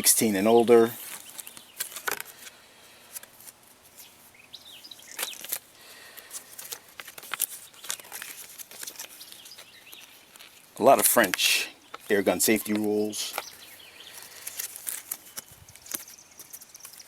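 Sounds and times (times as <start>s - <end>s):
paper rustling and crinkling: 0.4s - 4.3s, 5.0s - 17.0s.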